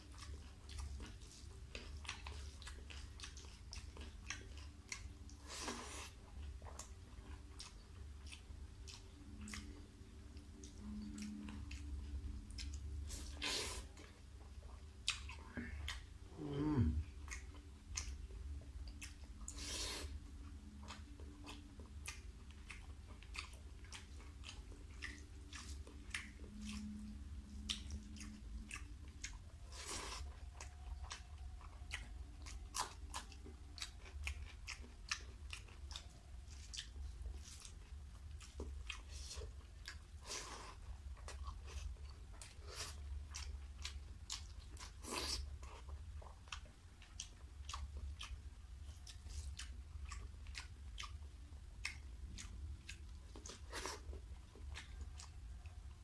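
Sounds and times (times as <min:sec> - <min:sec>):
man chewing and biting food: 0:00.0 - 0:56.0
steady low hum: 0:00.0 - 0:56.0.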